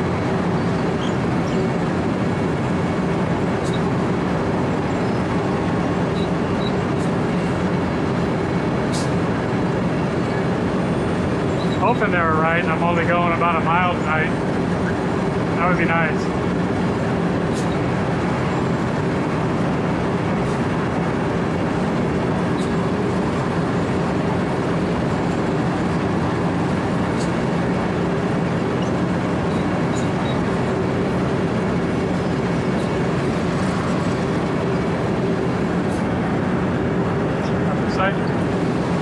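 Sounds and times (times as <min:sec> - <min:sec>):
milling machine running: 0:00.0 - 0:39.0.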